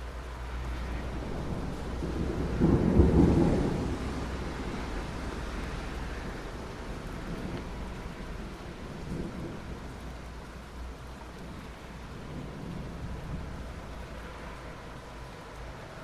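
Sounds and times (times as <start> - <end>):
soft rain on asphalt: 0.0 - 16.0.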